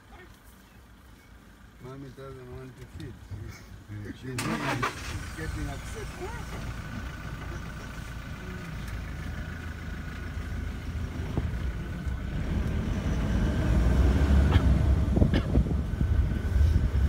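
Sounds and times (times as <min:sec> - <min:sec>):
vehicle engine low rumble: 0:00.0 - 0:17.0.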